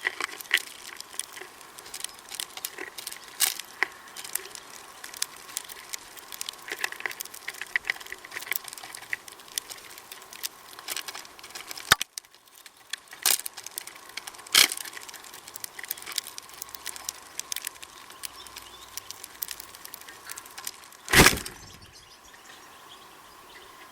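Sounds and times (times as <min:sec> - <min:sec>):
birds pecking seed: 0:00.0 - 0:23.0.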